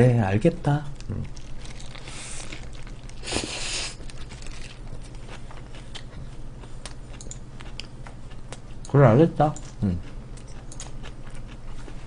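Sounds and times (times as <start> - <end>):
low steady hum: 0.0 - 12.0
person chewing: 0.9 - 8.9, 9.6 - 12.0.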